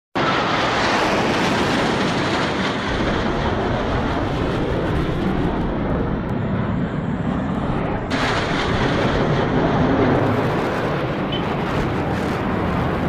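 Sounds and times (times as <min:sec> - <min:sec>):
fighter jet roaring past: 0:00.2 - 0:13.0.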